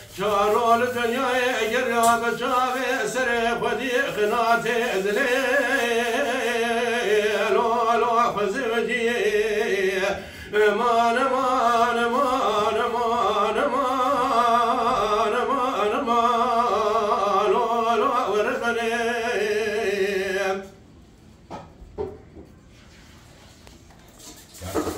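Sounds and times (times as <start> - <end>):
man singing unaccompanied: 0.0 - 20.7.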